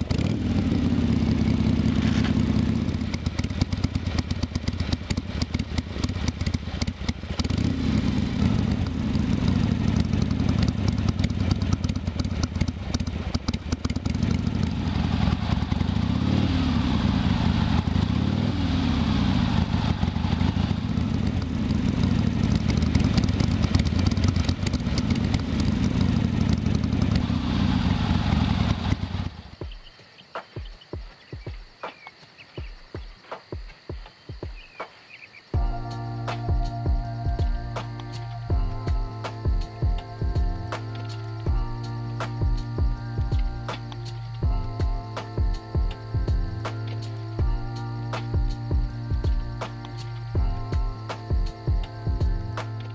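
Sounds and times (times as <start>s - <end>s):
motorcycle engine running: 0.0s - 29.8s, 35.6s - 52.9s.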